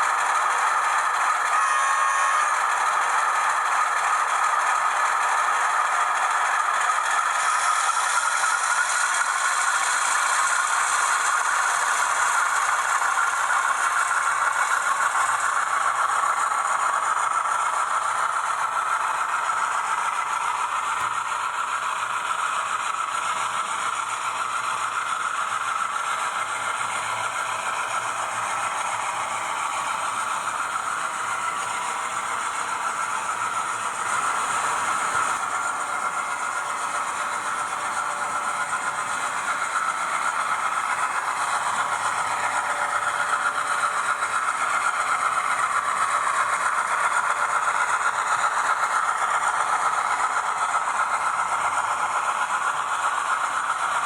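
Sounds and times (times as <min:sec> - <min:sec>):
model locomotive rattling on track: 0:00.0 - 0:54.0.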